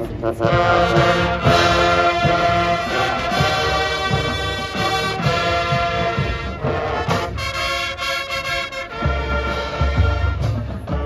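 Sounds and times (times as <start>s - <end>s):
drum-line strikes: 0.1s - 11.0s
brass playing held chords: 0.2s - 11.0s.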